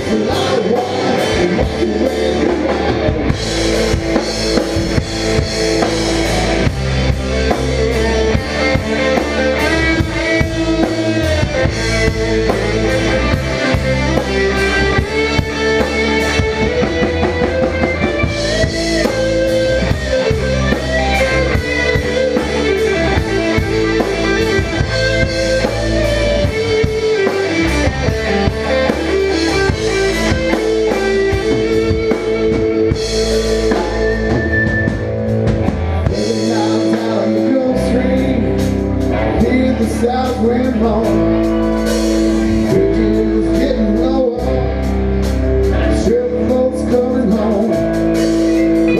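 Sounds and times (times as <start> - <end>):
drum kit beat: 0.0 - 48.9
guitar melody: 0.0 - 48.9.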